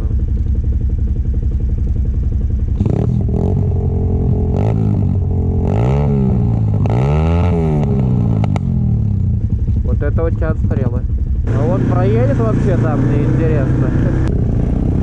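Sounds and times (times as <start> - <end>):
quad bike engine revving: 2.6 - 15.0.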